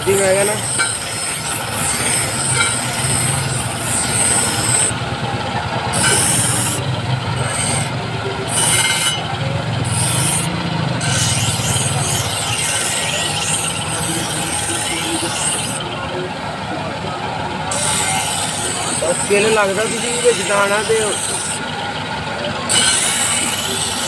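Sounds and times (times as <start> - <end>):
steel scraping on grinding wheel: 0.0 - 16.3, 17.5 - 24.0
grinding wheel machine running: 0.0 - 24.0.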